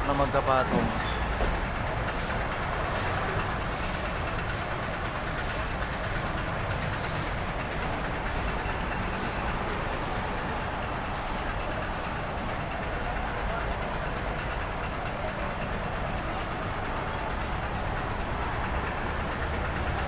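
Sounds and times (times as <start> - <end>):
heavy truck road and engine noise: 0.0 - 20.0.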